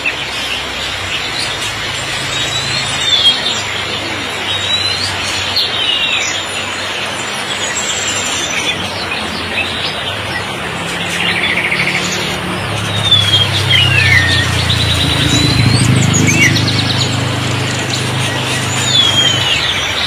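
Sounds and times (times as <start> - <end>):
songbirds chirping and whistling: 0.0 - 20.0.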